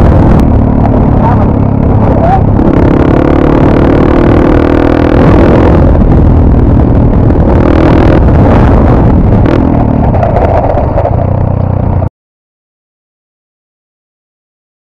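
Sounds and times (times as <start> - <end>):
motorcycle engine running: 0.0 - 12.1
wind noise on microphone: 0.0 - 12.1.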